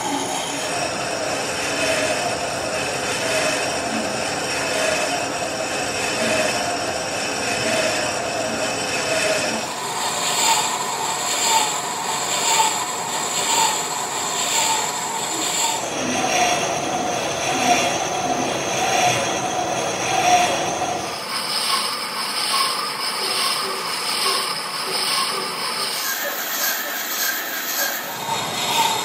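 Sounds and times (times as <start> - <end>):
high metallic squeal: 0.0 - 29.0
lathe machining: 0.0 - 29.0.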